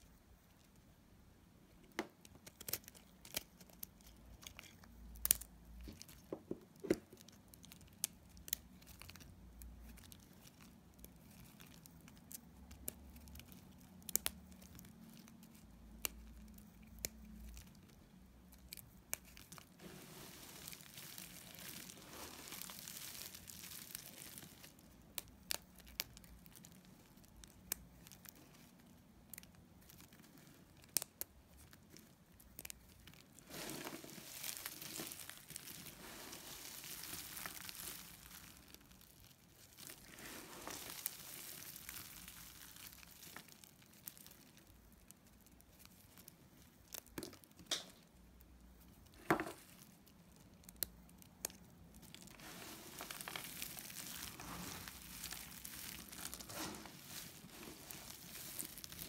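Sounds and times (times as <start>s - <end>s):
hands rustling soap shavings: 2.4s - 47.6s, 48.9s - 59.0s.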